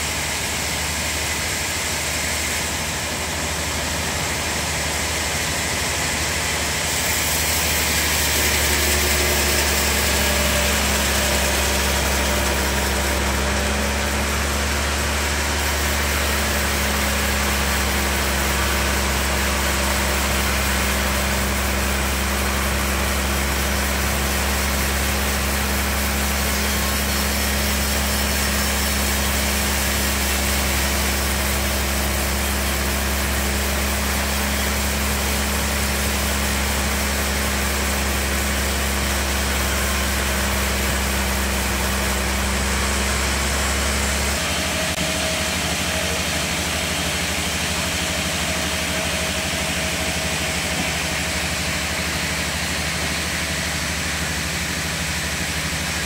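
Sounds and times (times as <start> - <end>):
bandsaw sawing through log: 0.0 - 56.0
low motor hum: 0.0 - 56.0.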